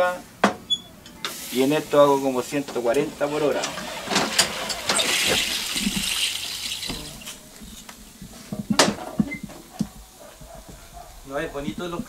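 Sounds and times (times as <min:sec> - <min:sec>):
wafer batter hissing on hot iron: 0:01.2 - 0:12.0.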